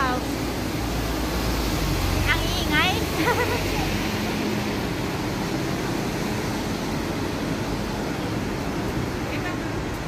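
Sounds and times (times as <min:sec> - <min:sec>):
city street traffic din: 0:00.0 - 0:10.0.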